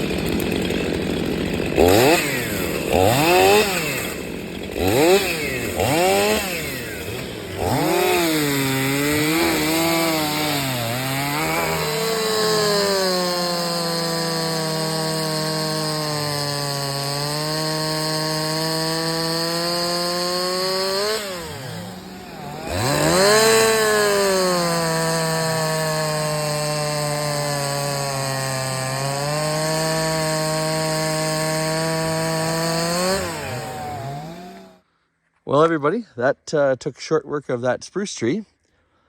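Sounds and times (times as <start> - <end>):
chainsaw cutting log: 0.0 - 34.8.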